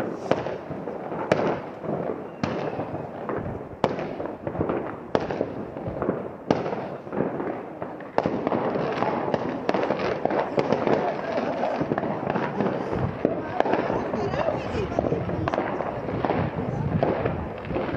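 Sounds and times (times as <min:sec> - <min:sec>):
firecrackers crackling: 0:00.0 - 0:17.9
firework bangs: 0:00.0 - 0:17.9.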